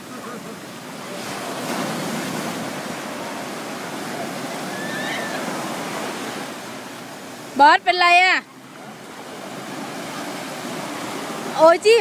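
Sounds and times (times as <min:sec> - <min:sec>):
sea surf washing up beach: 0:00.0 - 0:12.0.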